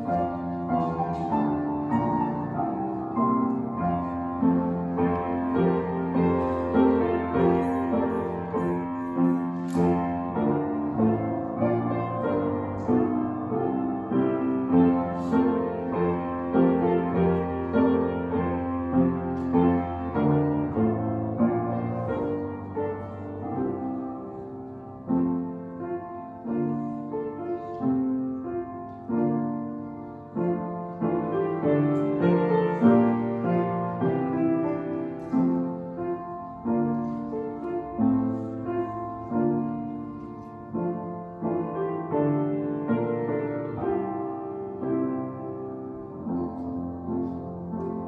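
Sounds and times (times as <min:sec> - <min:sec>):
slow solo piano piece: 0:00.0 - 0:48.0.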